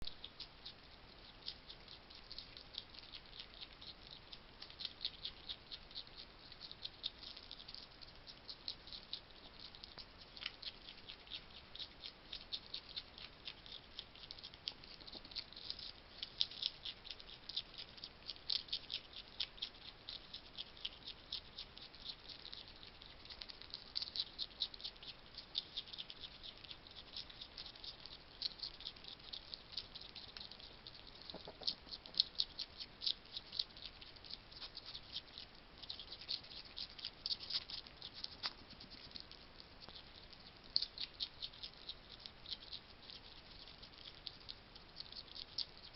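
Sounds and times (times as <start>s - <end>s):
hedgehog crunching dry food: 0.0s - 45.9s.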